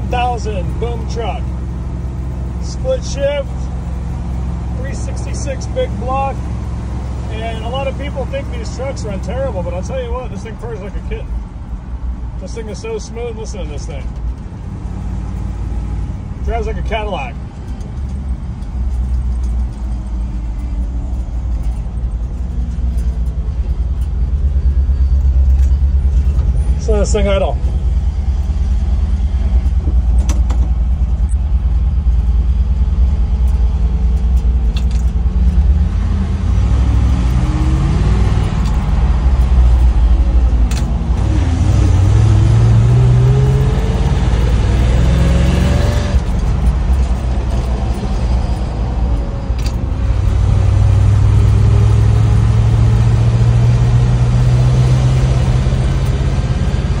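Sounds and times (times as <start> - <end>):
truck engine rumbling while driving: 0.0 - 57.0.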